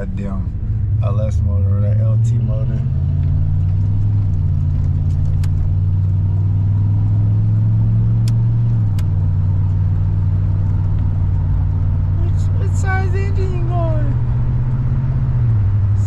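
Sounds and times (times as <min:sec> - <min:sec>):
car engine humming while driving: 0:00.0 - 0:16.0.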